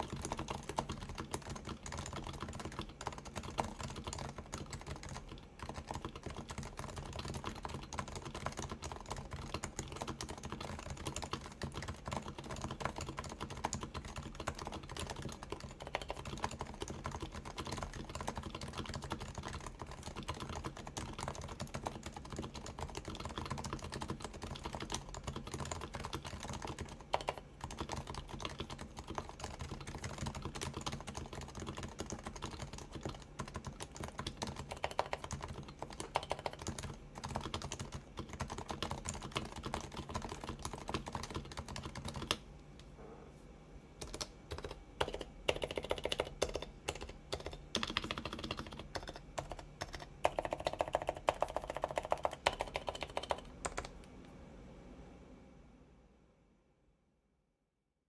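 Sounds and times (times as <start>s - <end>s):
fast keyboard typing: 0.0s - 42.4s, 44.0s - 54.0s.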